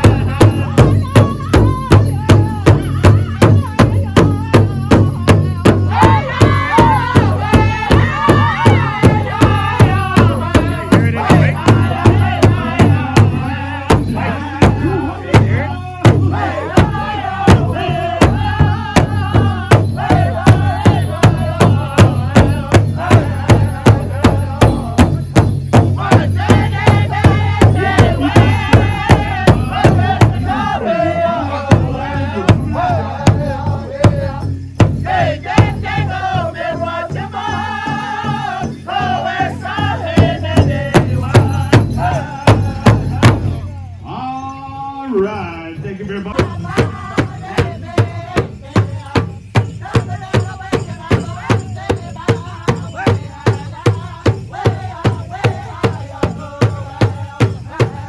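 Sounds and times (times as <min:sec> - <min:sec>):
large drum beating: 0:00.0 - 0:43.8, 0:46.3 - 0:58.0
high wavering group singing: 0:00.0 - 0:45.1, 0:46.2 - 0:58.0.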